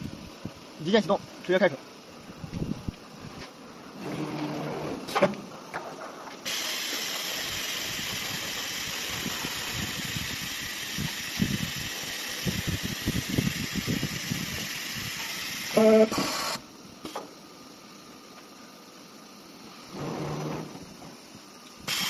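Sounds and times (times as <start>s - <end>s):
steady hiss of air: 0.0s - 22.0s.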